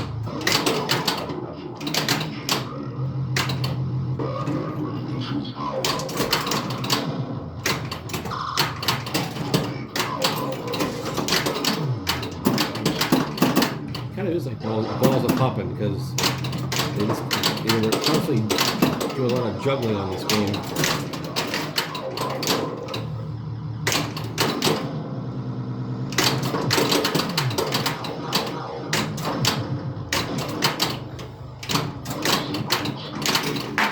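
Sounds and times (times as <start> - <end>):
pinball ball and coil clatter: 0.0 - 33.9.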